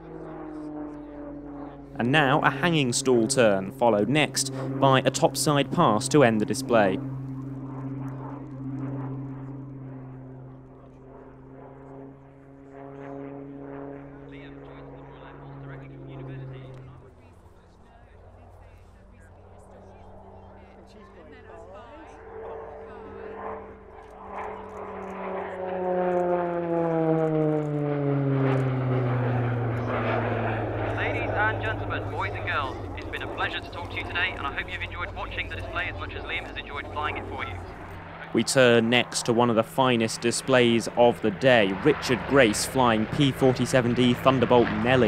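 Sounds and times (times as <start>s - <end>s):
propeller plane flying past: 0.0s - 45.0s
turboprop aircraft droning: 0.0s - 45.0s.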